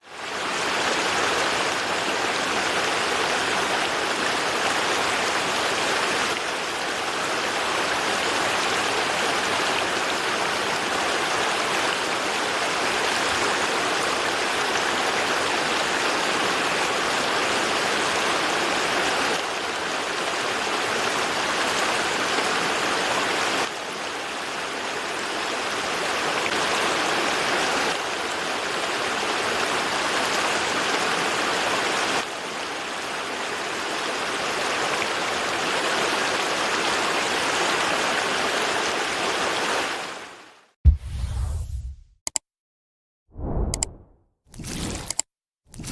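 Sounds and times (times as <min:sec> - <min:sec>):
river water rushing: 0:00.2 - 0:40.4.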